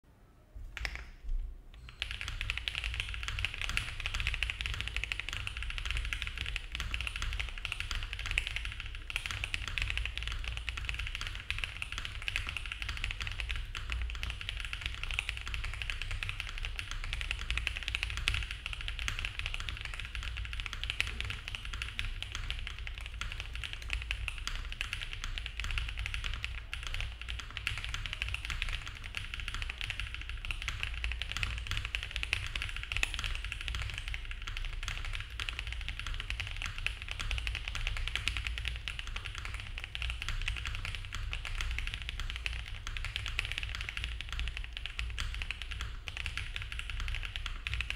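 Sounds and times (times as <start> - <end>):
mechanical keyboard typing: 1.8 - 47.9.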